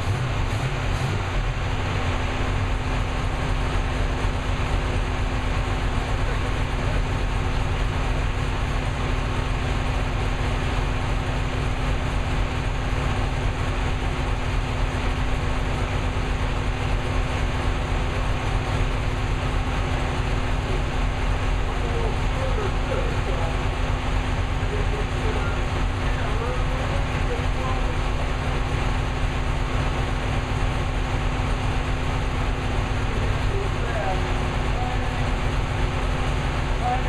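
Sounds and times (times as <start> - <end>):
car engine idling loudly: 0.0 - 37.0.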